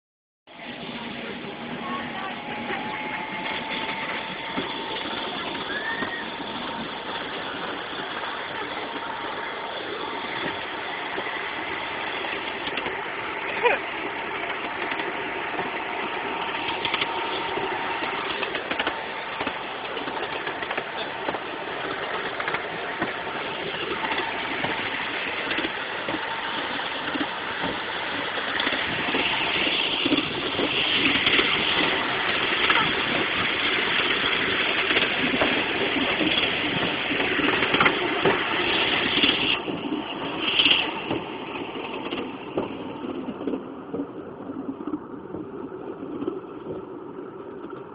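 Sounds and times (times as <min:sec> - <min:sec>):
miniature train rumbling: 0:00.5 - 0:47.9.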